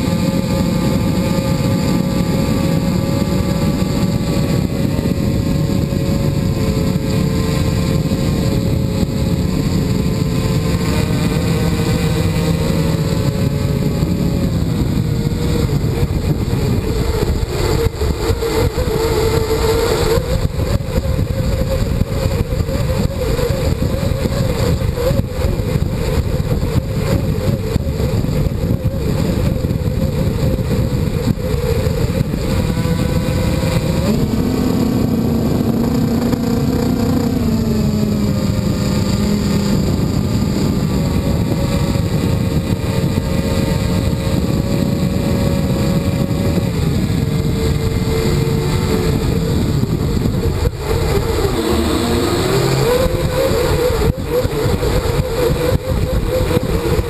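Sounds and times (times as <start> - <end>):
drone propellers droning: 0.0 - 57.0
low wind rumble: 0.0 - 57.0.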